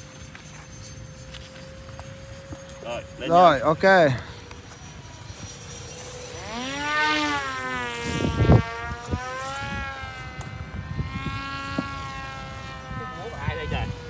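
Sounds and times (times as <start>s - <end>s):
model plane motor whining: 0.0s - 14.0s.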